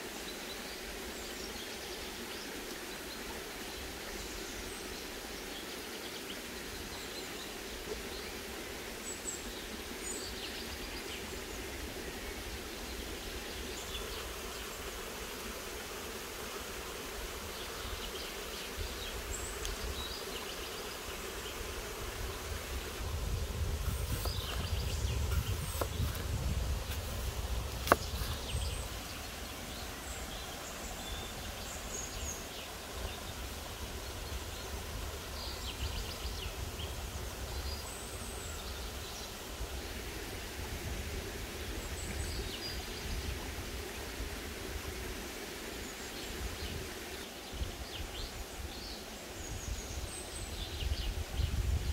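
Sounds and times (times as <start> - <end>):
outdoor background hiss: 0.0 - 51.9.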